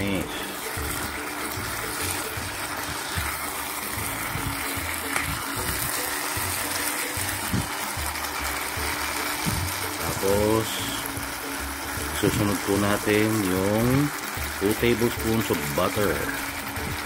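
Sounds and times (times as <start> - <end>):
chicken sizzling in a frying pan: 0.0 - 17.0.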